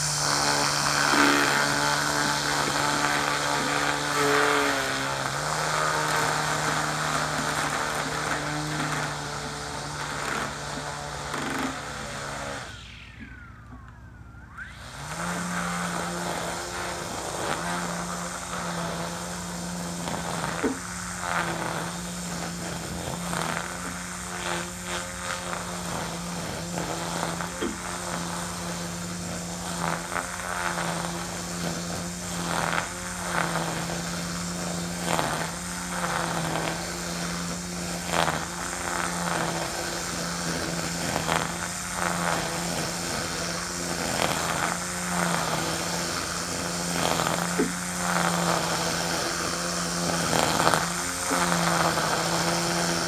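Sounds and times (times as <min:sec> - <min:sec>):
trimmer line swishing through grass: 0:00.0 - 0:13.8, 0:14.5 - 0:53.0
string trimmer running: 0:00.0 - 0:53.0.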